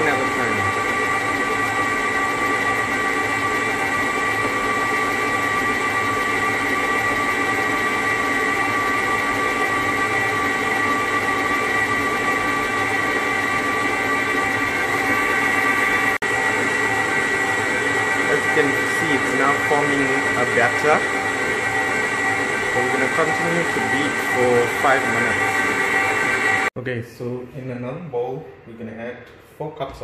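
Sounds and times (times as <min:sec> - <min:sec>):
electric stand mixer whining: 0:00.0 - 0:26.8.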